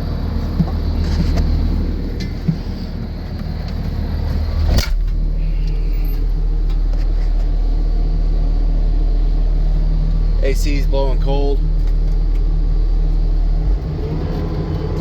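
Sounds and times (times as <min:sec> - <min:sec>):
skid steer diesel engine running: 0:00.0 - 0:15.0.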